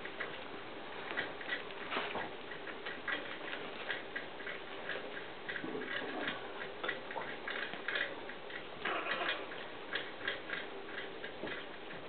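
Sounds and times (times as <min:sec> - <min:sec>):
steady ticking: 0:00.0 - 0:12.0.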